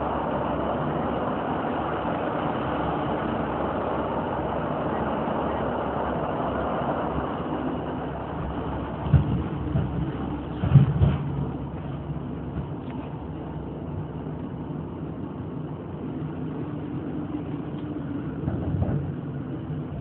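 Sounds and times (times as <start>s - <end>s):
train carriage running noise: 0.0s - 20.0s.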